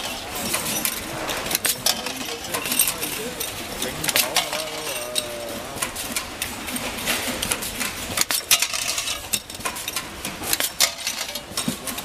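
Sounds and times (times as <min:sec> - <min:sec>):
metal hinges clinking and rattling: 0:00.0 - 0:12.0.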